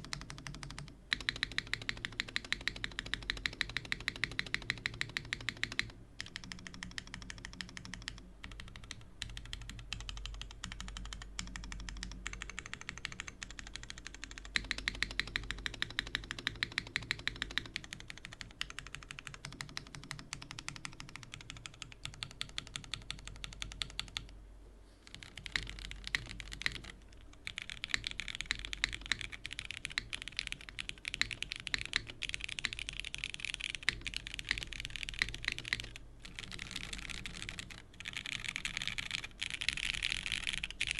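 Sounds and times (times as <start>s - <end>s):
mechanical keyboard typing: 0.0s - 24.3s, 25.1s - 40.9s.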